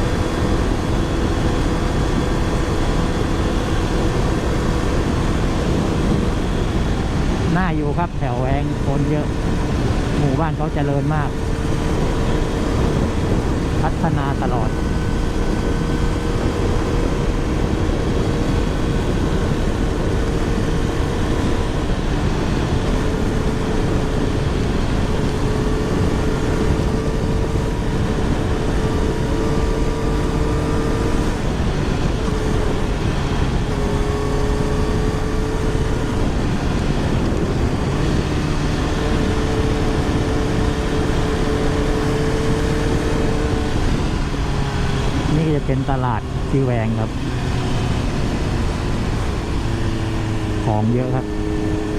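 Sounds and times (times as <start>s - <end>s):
motorcycle engine hum: 0.0s - 51.9s
wind roaring over microphone: 0.0s - 51.9s.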